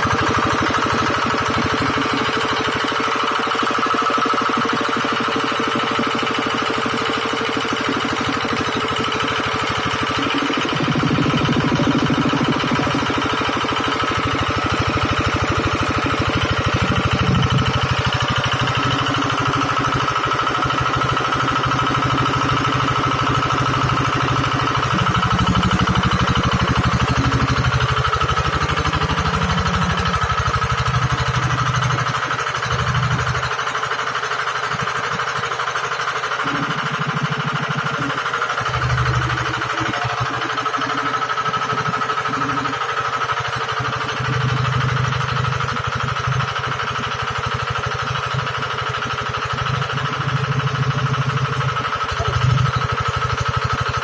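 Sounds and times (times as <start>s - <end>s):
drilling rig engine running: 0.0s - 54.0s.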